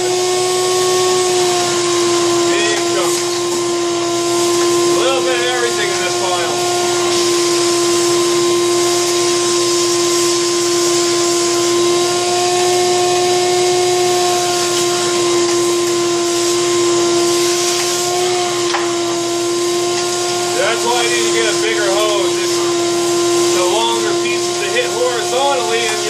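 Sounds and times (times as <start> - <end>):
hose sucking up sawdust: 0.0 - 26.0
shop vac whining: 0.0 - 26.0.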